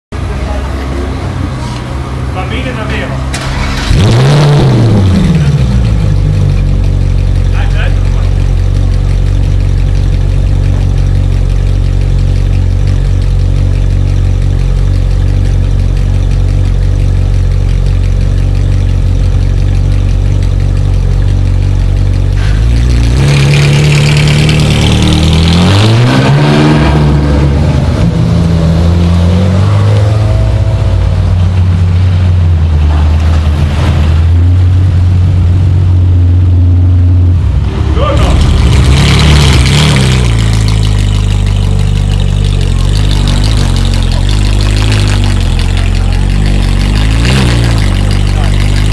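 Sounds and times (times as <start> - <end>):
sports car engine idling: 0.2 - 4.0, 4.6 - 48.9
engine revving: 0.2 - 48.9.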